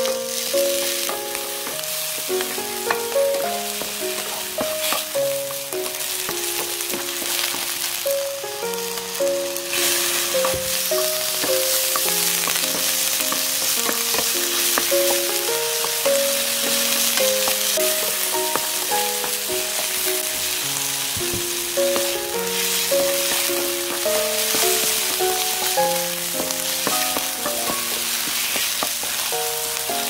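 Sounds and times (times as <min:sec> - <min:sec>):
food sizzling in a pan: 0:00.0 - 0:30.0
gentle background melody: 0:00.0 - 0:30.0
wooden spatula scraping a pan: 0:00.3 - 0:08.0, 0:09.6 - 0:29.3.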